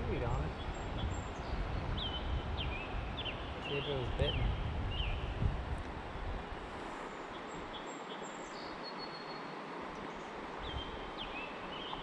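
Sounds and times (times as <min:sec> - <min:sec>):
outdoor background hiss: 0:00.0 - 0:12.0
small birds whistling: 0:00.2 - 0:05.4, 0:07.3 - 0:12.0.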